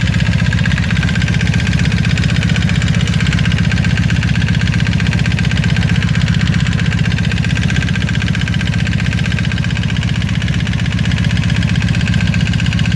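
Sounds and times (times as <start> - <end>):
engine knocking: 0.0 - 12.9
motorcycle engine idling: 0.0 - 12.9.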